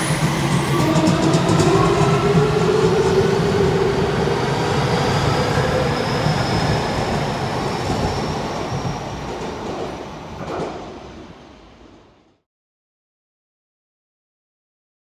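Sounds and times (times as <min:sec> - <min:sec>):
train rumbling: 0:00.0 - 0:12.3.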